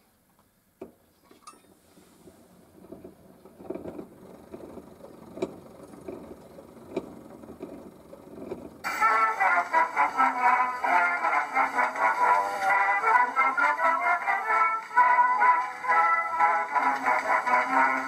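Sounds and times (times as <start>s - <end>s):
gramophone motor running: 3.5s - 18.0s.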